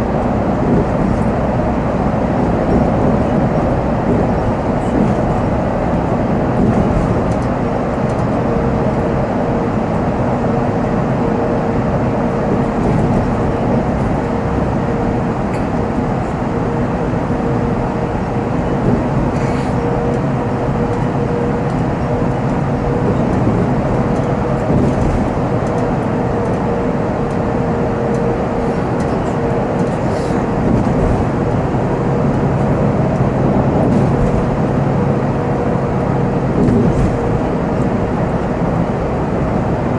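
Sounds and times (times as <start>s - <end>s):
coach diesel engine droning: 0.0s - 39.9s
constant whine: 0.0s - 39.9s
road noise: 0.0s - 39.9s.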